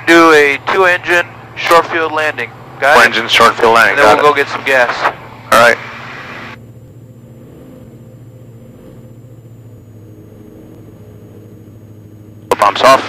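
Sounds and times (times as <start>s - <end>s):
aircraft engines droning: 0.0s - 13.0s.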